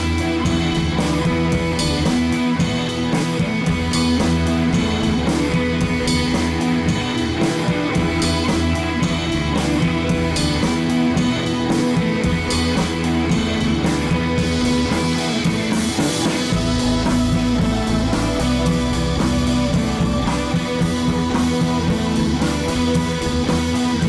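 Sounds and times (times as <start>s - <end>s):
guitar: 0.0s - 24.0s
steady drum beat: 0.0s - 24.0s.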